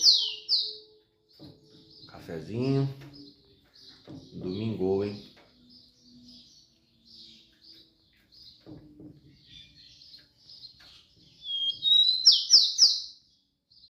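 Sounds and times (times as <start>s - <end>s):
sparrow chirping: 0.0s - 13.9s.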